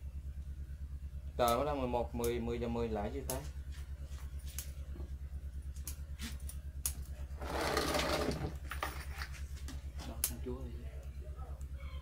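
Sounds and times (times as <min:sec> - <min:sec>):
low pulsing hum: 0:00.0 - 0:12.0.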